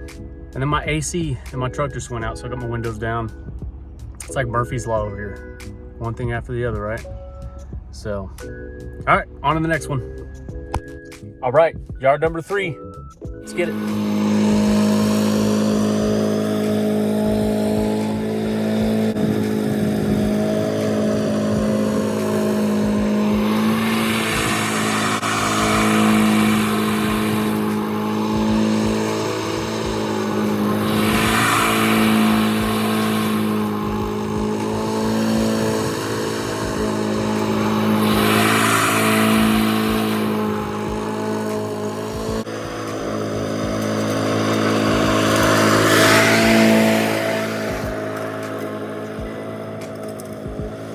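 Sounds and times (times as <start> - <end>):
lawn mower engine running: 0.0 - 50.9.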